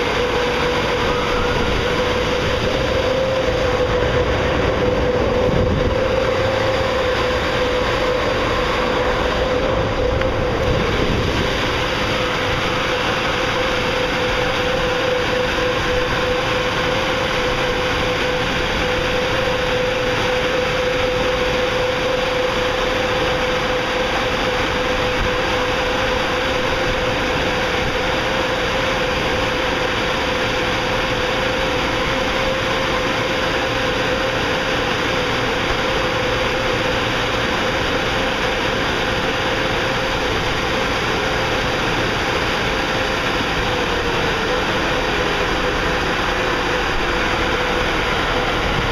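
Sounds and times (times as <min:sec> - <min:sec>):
air dryers roaring with whine: 0:00.0 - 0:48.9.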